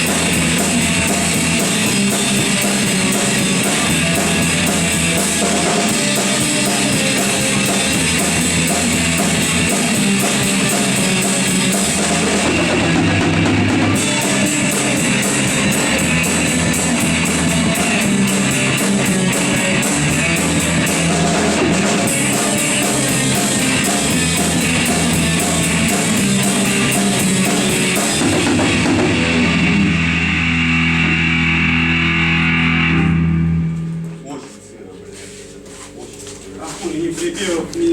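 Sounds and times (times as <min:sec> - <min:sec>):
instrumental rock music: 0:00.0 - 0:34.5.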